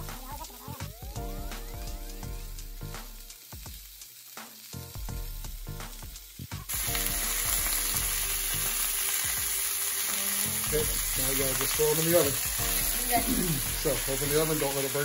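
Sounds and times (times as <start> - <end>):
steak sizzling in a skillet: 0.0 - 15.0.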